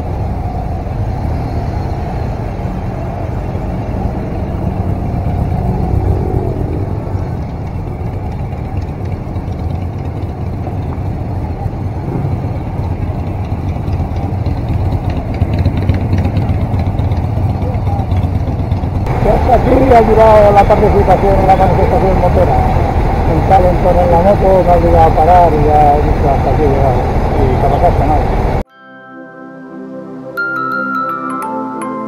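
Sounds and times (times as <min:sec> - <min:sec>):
motorcycle engines rumbling: 0:00.0 - 0:28.6.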